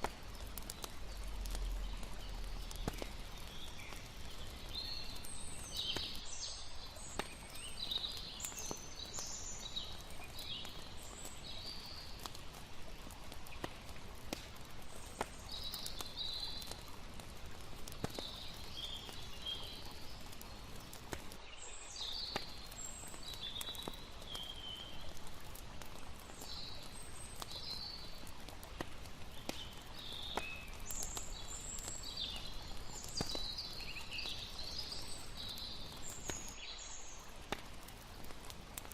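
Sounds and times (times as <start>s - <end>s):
campfire crackling and popping: 0.0s - 38.9s
flowing water: 0.0s - 38.9s.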